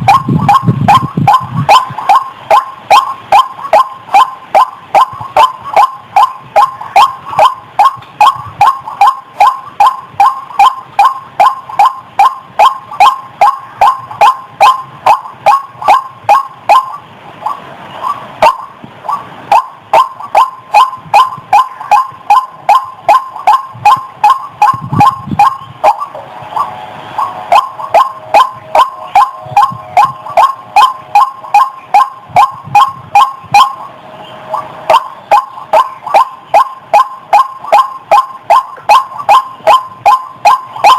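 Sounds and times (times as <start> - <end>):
waterhen calling: 0.0 - 40.9.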